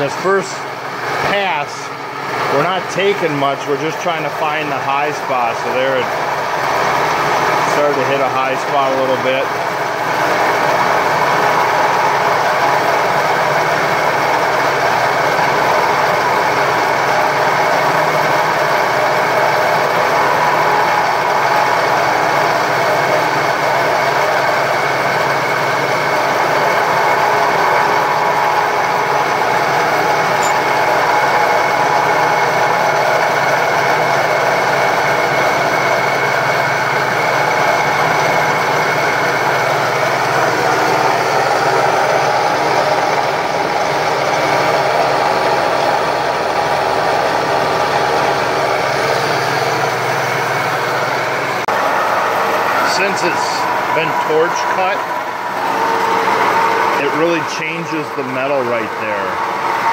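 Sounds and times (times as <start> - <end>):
milling machine cutting steel: 0.0 - 59.9.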